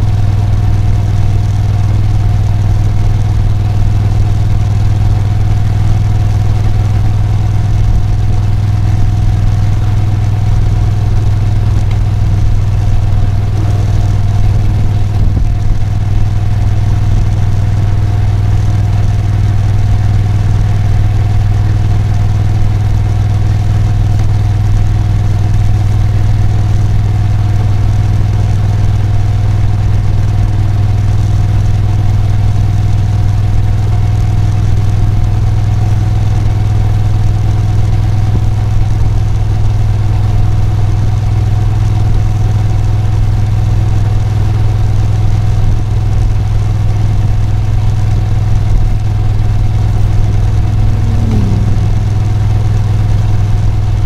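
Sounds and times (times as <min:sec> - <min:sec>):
motorcycle engine running steadily: 0:00.0 - 0:54.0.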